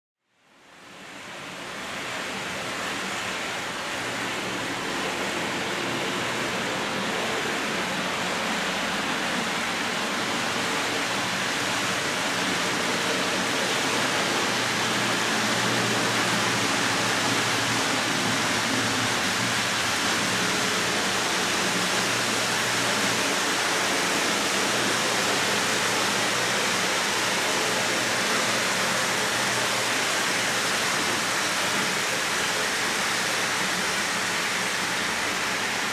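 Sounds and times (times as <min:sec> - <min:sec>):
model train wheels on rails: 0:01.0 - 0:35.9.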